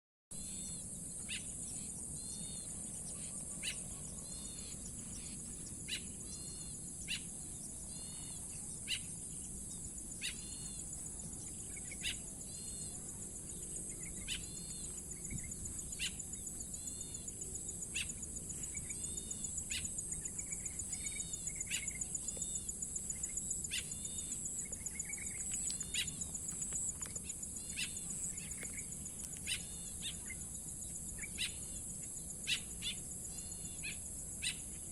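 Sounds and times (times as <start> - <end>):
insect drone: 0.3 - 34.9
chirped bird calls: 0.4 - 31.8.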